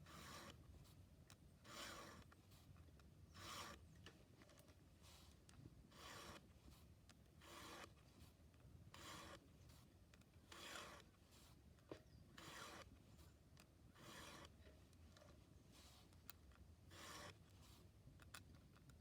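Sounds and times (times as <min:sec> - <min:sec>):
file rasping on chainsaw chain: 0:00.0 - 0:00.7, 0:01.3 - 0:18.9.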